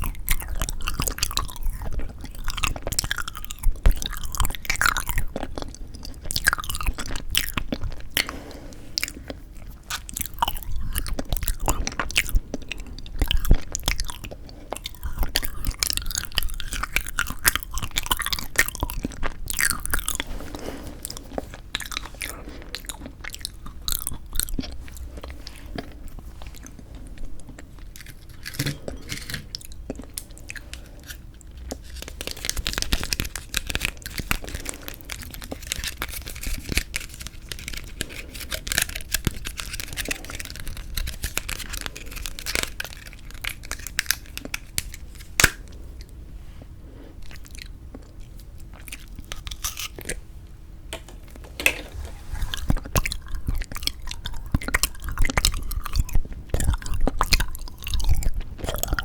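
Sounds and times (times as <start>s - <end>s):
chewing and biting jelly: 0.0s - 46.2s, 47.1s - 50.6s, 52.2s - 59.0s.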